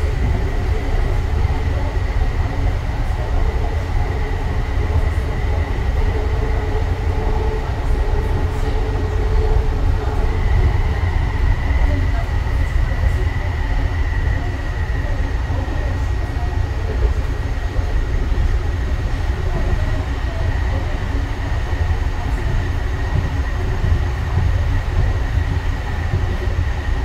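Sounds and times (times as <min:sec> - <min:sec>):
steel wheels rumbling on rails: 0:00.0 - 0:27.0.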